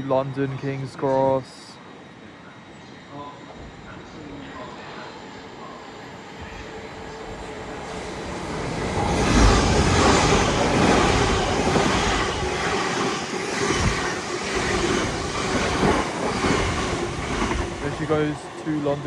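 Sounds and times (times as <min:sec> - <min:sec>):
train wheels rumbling on rails: 0:03.5 - 0:19.0.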